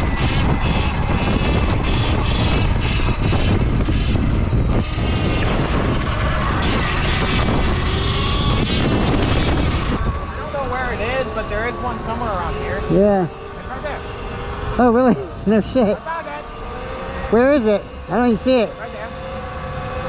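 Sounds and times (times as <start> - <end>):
wind on microphone: 0.0 - 20.0.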